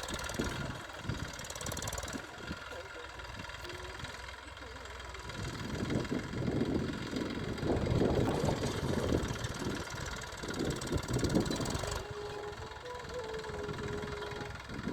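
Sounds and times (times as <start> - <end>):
tractor engine surging: 0.0 - 14.9.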